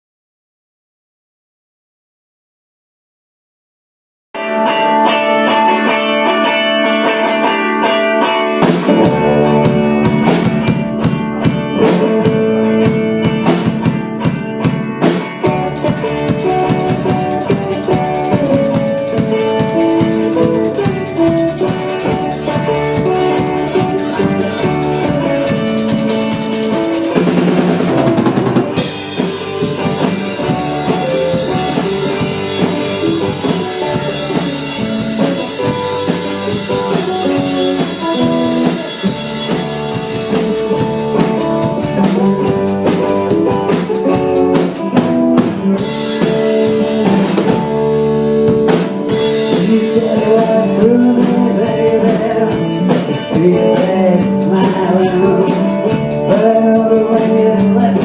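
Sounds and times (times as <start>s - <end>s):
drum kit beat: 4.4s - 58.0s
guitar: 4.4s - 58.0s
live band playing: 4.4s - 58.0s.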